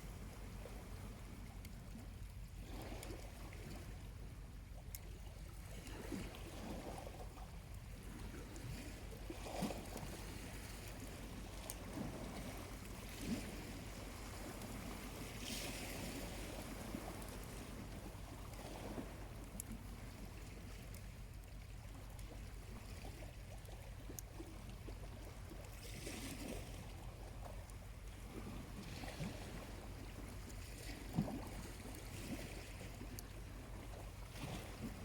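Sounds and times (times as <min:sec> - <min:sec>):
small waves lapping on beach: 0:00.0 - 0:35.0.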